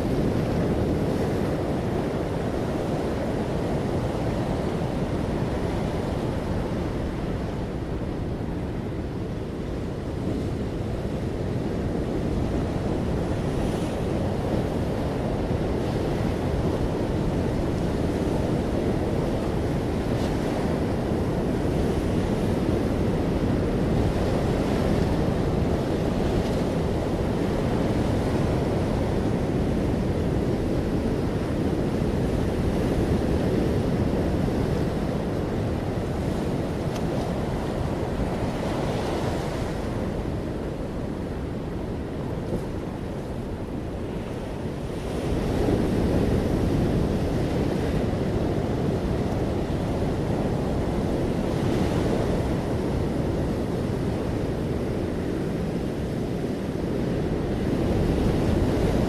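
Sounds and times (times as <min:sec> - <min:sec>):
ocean waves washing on shore: 0:00.0 - 0:59.0.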